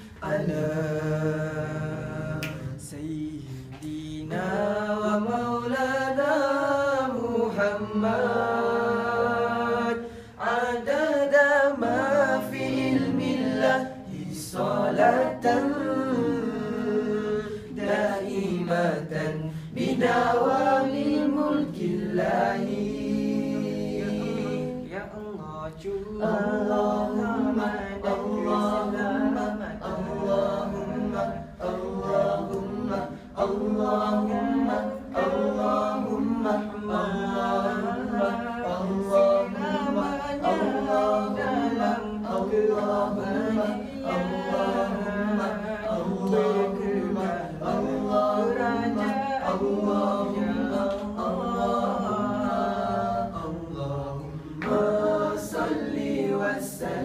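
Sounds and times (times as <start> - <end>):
male vocal group singing a cappella: 0.0 - 57.0.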